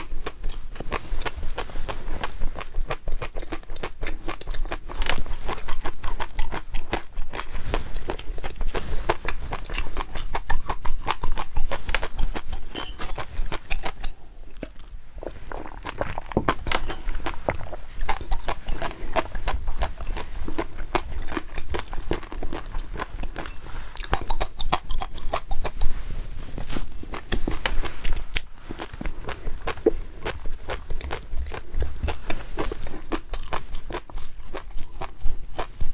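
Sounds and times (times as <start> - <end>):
person chewing with moist clicks: 0.0 - 26.0, 26.6 - 35.9.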